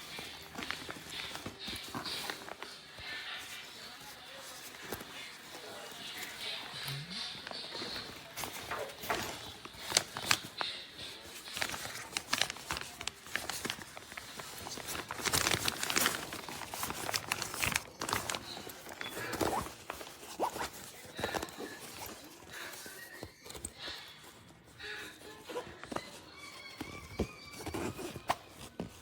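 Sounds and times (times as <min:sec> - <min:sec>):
crinkling and rustling: 0:00.0 - 0:29.0.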